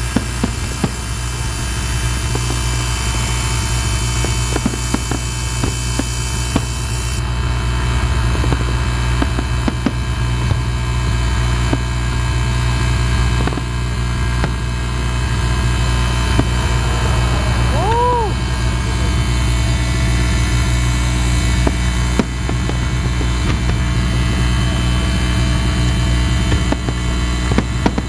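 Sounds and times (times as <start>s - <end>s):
fireworks popping and crackling: 0.0s - 28.0s
steady low rumble: 0.0s - 28.0s.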